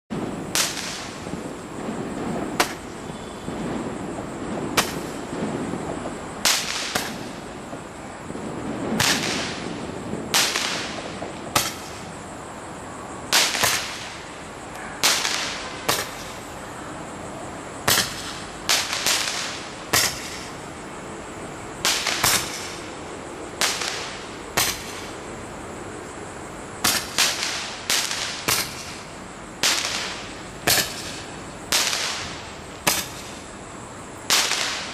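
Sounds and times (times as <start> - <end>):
firework shots popping and hissing: 0.1 - 16.6, 17.7 - 20.8, 21.7 - 26.0, 26.6 - 34.9.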